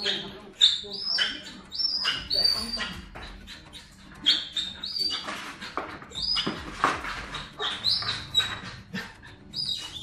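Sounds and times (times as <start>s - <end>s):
dog whimpering: 0.0s - 10.0s.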